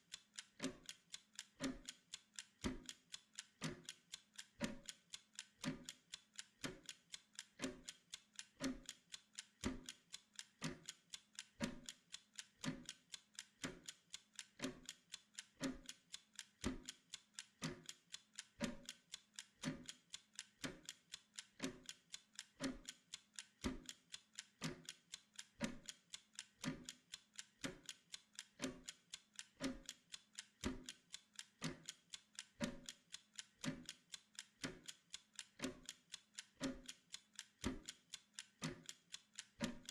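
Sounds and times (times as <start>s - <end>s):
mechanical timer ticking: 0.0s - 39.9s.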